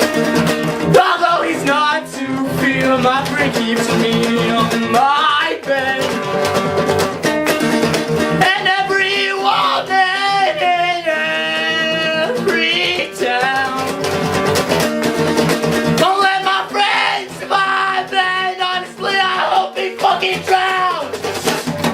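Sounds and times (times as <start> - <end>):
person singing: 0.0 - 14.8, 15.9 - 21.8
strummed acoustic guitar: 0.0 - 21.9.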